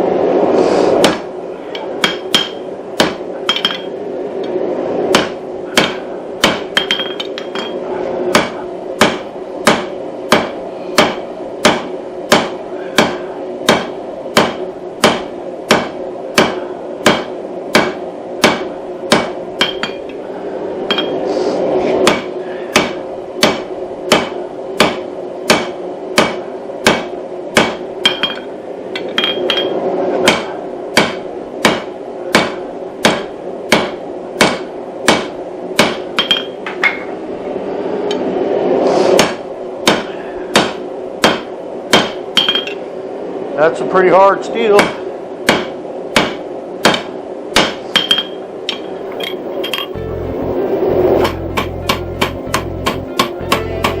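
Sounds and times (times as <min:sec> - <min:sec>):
steady hum: 0:00.0 - 0:54.0
hammer striking hot steel: 0:01.0 - 0:04.0, 0:05.1 - 0:20.2, 0:20.9 - 0:21.2, 0:22.0 - 0:37.1, 0:39.2 - 0:42.8, 0:44.7 - 0:50.0, 0:51.2 - 0:54.0.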